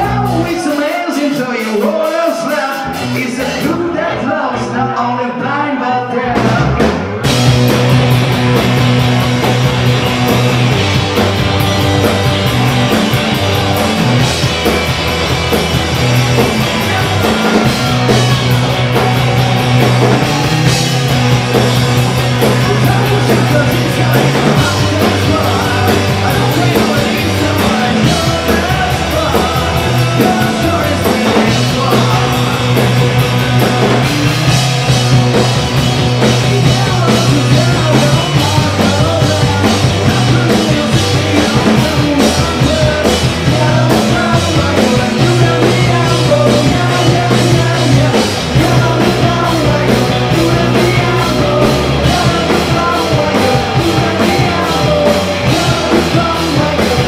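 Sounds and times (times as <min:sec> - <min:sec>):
bass guitar: 0:00.0 - 0:57.0
electric guitar: 0:02.8 - 0:57.0
drum kit with crashing cymbals: 0:06.4 - 0:57.0.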